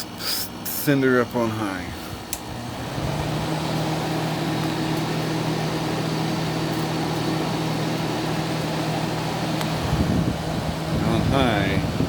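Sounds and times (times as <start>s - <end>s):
air conditioner fan blowing: 0.0s - 12.0s.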